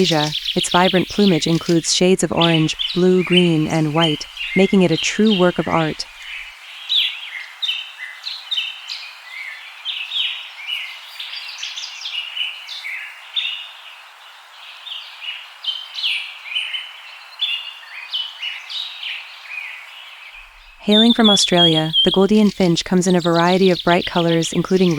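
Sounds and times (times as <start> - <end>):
faint background hiss: 0.0 - 24.9
small birds chirping: 0.0 - 24.9.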